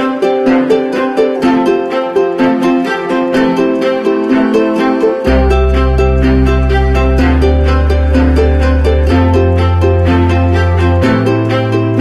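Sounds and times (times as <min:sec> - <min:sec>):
plucked string tune: 0:00.0 - 0:12.0.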